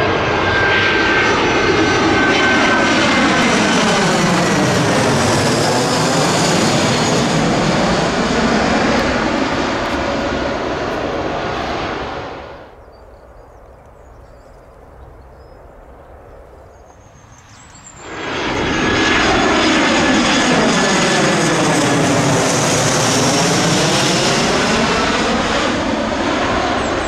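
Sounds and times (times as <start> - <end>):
jet airliner passing overhead: 0.0 - 27.0.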